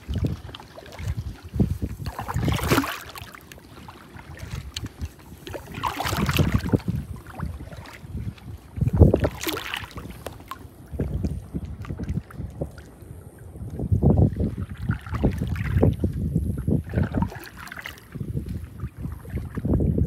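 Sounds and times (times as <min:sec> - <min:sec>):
paddle splashing in water: 0:00.0 - 0:20.0
wind buffeting microphone: 0:00.0 - 0:20.0.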